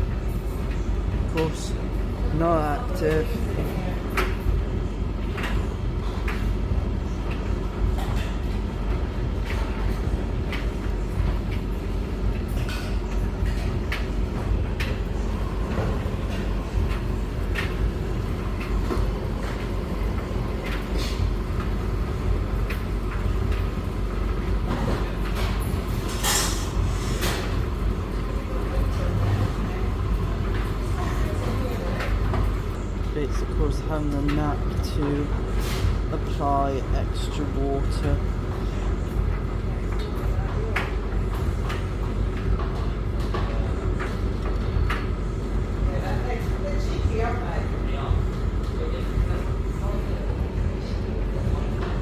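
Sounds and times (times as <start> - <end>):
washing machine drum rumbling: 0.0 - 52.0
water filling machine: 0.0 - 52.0.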